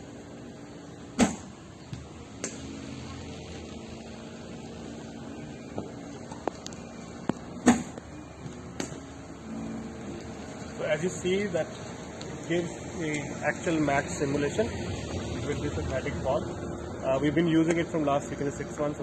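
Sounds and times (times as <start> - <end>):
bowling machine hum: 0.0 - 19.0.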